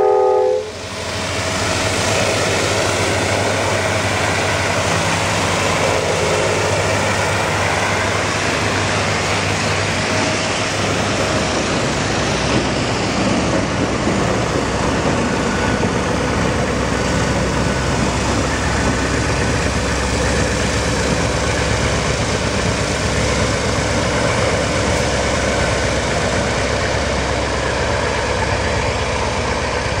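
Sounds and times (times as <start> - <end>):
passing train hiss: 0.0 - 30.0
diesel engine rumble: 0.7 - 30.0.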